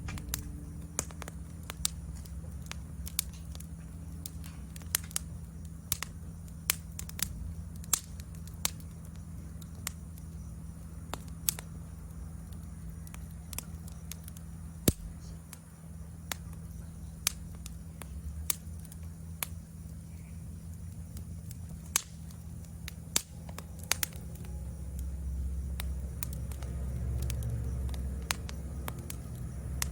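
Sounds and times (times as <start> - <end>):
insect trill: 0.0 - 29.9
low fire rumble: 0.0 - 29.9
wood fire crackling and popping: 0.0 - 29.9.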